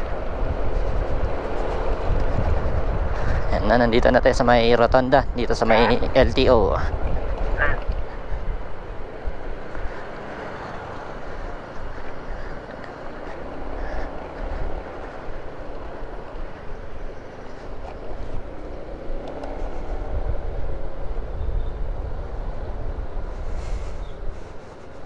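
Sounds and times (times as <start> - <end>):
motorcycle engine rumble: 0.0 - 4.0, 5.3 - 25.0
wind and road noise: 0.0 - 25.0.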